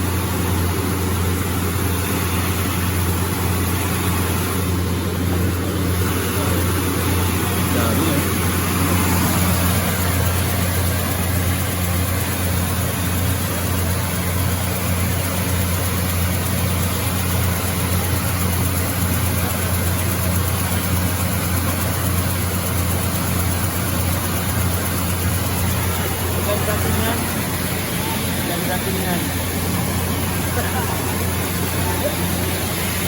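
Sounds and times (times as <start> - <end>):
rice mill running: 0.0 - 33.0.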